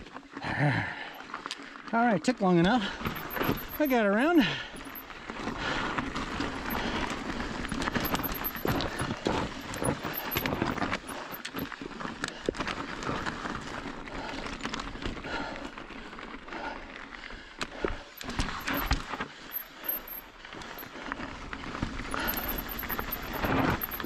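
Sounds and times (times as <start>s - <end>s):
bike rattles and knocks: 2.8s - 16.4s, 17.6s - 24.0s.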